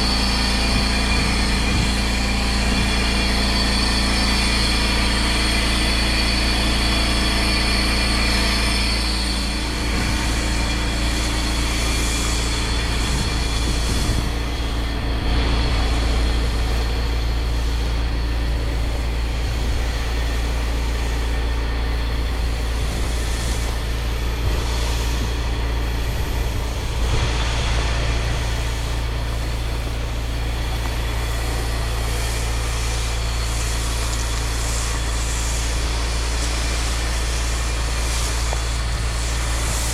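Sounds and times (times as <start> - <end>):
pressure washer engine running: 0.0 - 39.9
water spray hissing: 0.0 - 39.9.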